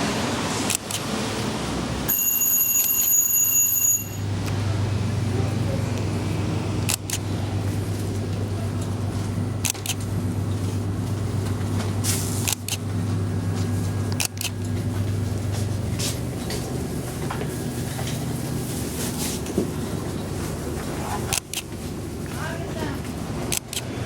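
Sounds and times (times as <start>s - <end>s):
vehicle engine humming: 4.2s - 24.0s.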